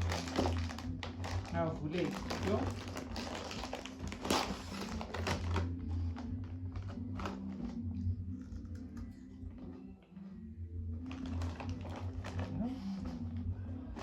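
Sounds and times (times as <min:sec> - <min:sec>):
chewing crunchy chips: 0:00.0 - 0:09.8, 0:11.0 - 0:14.0
steady low hum: 0:00.0 - 0:14.0.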